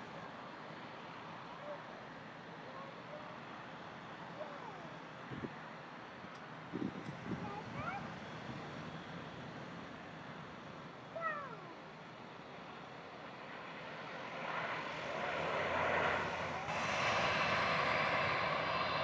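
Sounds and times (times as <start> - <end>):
turboprop engines running: 0.0 - 19.0.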